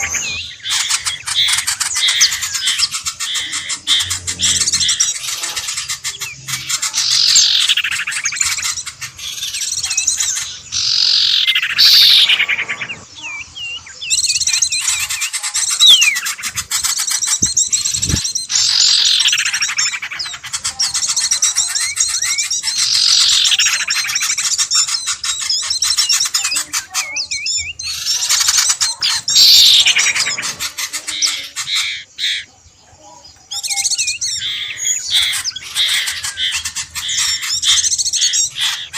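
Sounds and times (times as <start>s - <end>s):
loud falling bird call: 0.0s - 32.5s, 33.5s - 38.9s
birds chirping and twittering: 0.0s - 38.9s.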